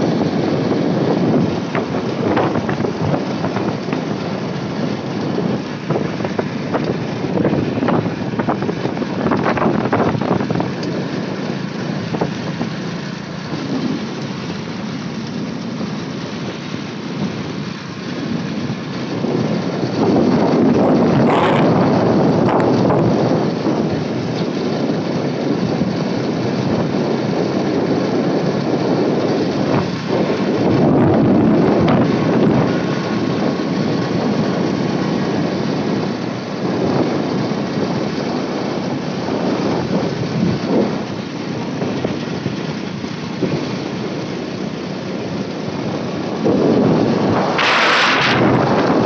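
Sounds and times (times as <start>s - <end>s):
motorcycle engine running: 0.0s - 49.0s
wind buffeting microphone: 0.0s - 49.0s.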